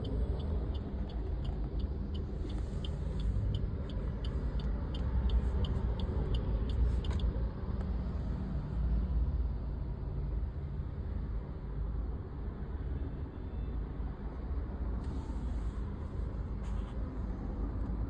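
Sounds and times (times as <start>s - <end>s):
car engine rumble: 0.0s - 12.1s, 14.2s - 18.0s.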